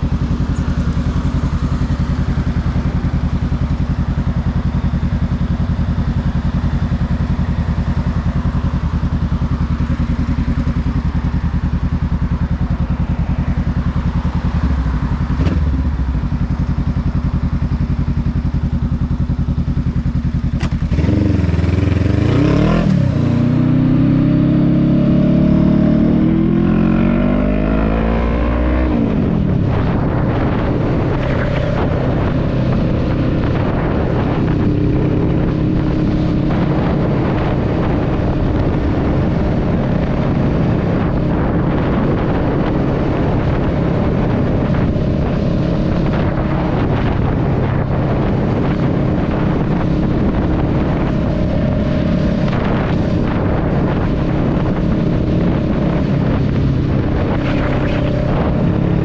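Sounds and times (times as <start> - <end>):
motorcycle engine accelerating: 0.0 - 59.0
wind rushing over microphone: 0.0 - 59.0.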